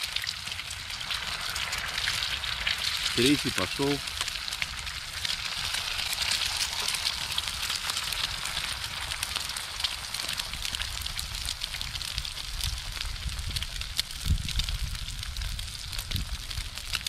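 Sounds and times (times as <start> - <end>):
eggs sizzling in a pan: 0.0 - 17.0
wood fire crackling: 0.0 - 17.0.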